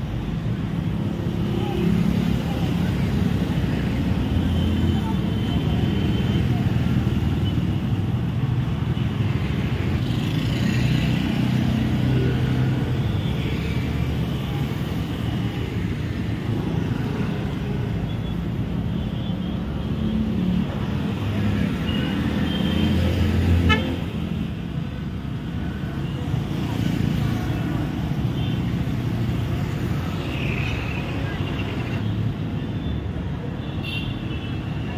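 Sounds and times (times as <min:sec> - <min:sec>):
motorbikes and cars passing: 0:00.0 - 0:34.9.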